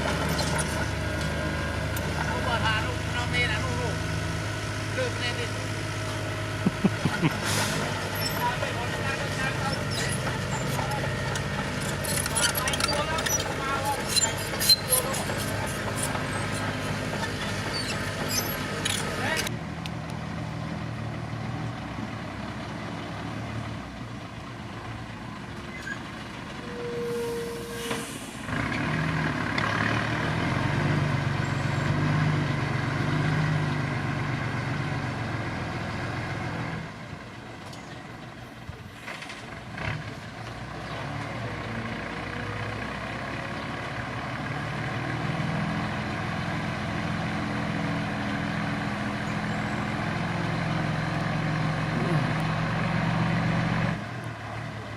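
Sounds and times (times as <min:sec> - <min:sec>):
heavy diesel engines running: 0:00.0 - 0:54.9.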